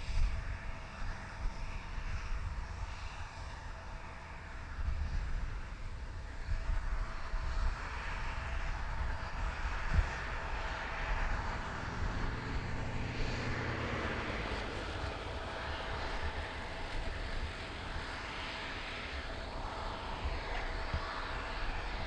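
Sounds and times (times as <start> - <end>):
aircraft engines running: 0.0 - 22.0.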